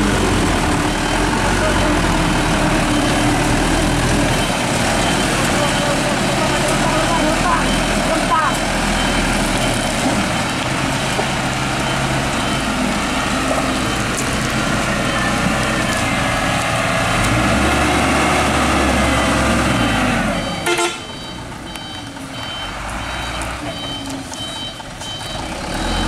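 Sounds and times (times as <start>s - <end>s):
reversing beeper: 0.0s - 10.6s, 11.7s - 16.7s, 17.6s - 26.0s
diesel engine running under load: 0.0s - 26.0s.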